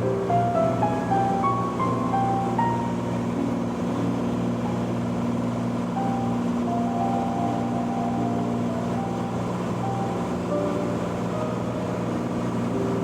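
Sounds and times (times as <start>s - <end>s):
aircraft engine and propeller droning: 0.0s - 13.0s
faint melodic notes: 0.0s - 13.0s.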